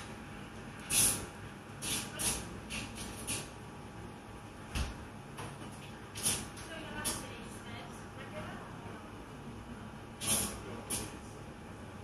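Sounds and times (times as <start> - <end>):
cafe room noise: 0.0 - 12.0.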